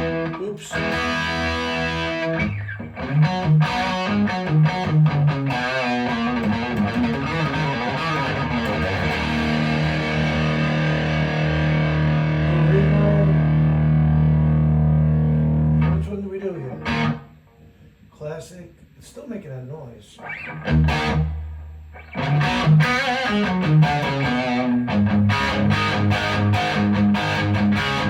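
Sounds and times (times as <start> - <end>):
electric guitar notes and chord: 0.0 - 16.1, 16.7 - 17.3, 20.2 - 28.0.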